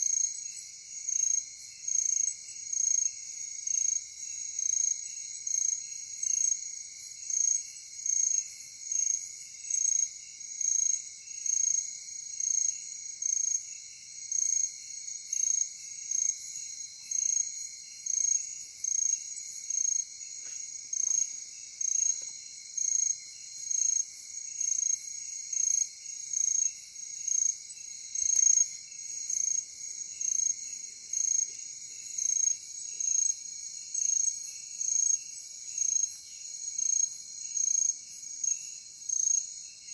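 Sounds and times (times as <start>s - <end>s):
crickets trilling: 0.0s - 39.9s
high insect hiss: 0.0s - 39.9s.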